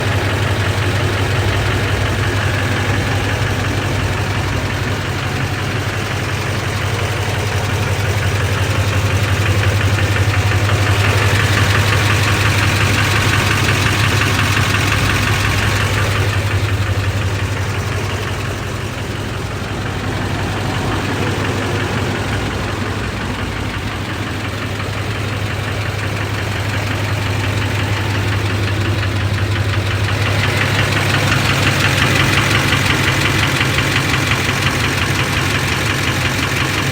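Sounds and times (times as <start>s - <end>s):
diesel engine knocking: 0.0s - 36.9s.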